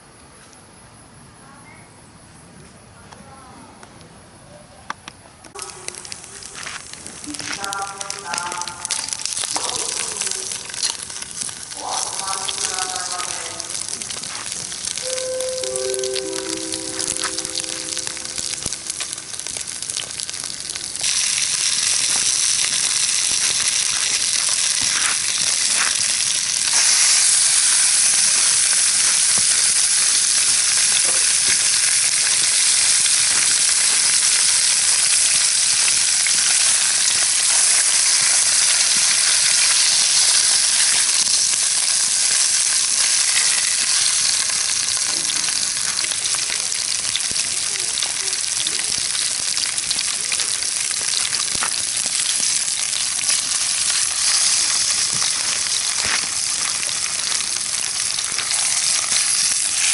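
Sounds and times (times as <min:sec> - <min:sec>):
food sizzling in a pan: 0:05.5 - 0:59.9.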